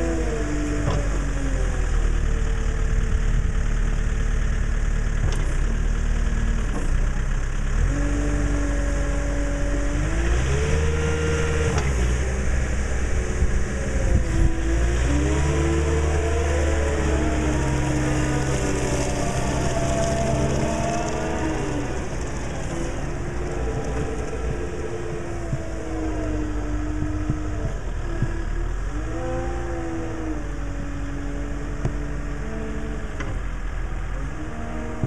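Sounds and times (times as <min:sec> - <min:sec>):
diesel engine revving: 0:00.0 - 0:35.0.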